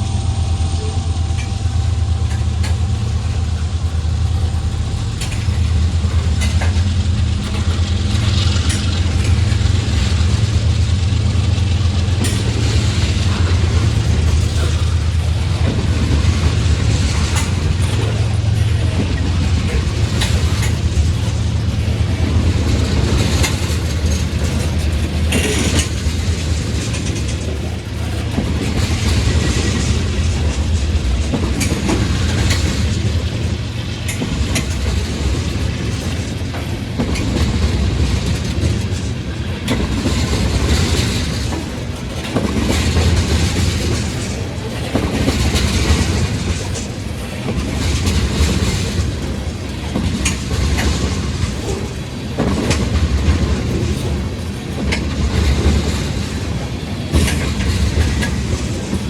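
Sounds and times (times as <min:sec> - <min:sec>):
freight train cars rumbling: 0:00.0 - 0:59.0
wheels clicking over rail joints: 0:00.8 - 0:59.0.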